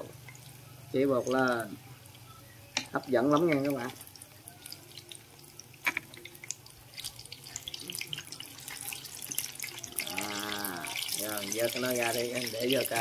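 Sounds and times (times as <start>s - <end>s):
batter dripping and spattering: 0.2s - 13.0s.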